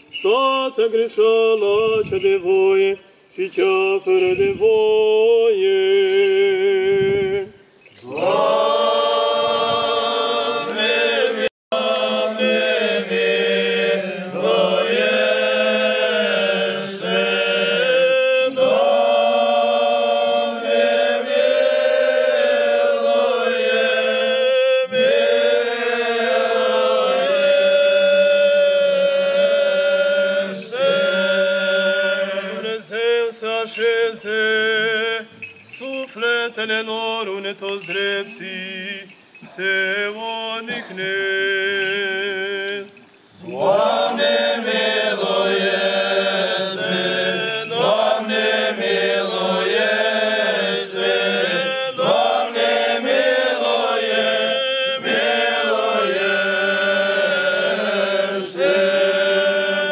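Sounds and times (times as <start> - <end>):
voices singing liturgical chant: 0.0 - 59.9.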